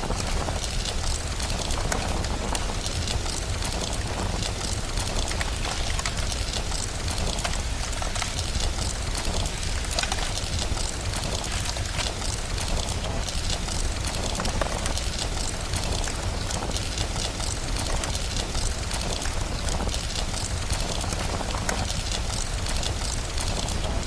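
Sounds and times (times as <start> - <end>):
rain hiss: 0.0 - 24.0
wood fire crackling: 0.0 - 24.0.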